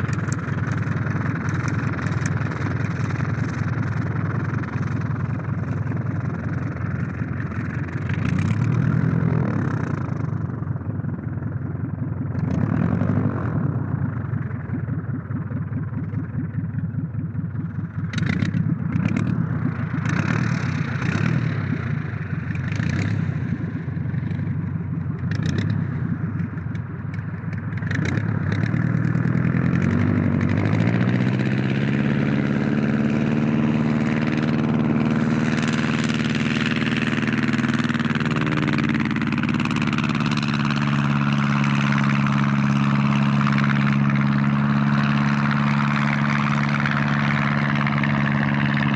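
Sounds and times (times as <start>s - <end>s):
propeller plane engine: 0.0s - 48.9s.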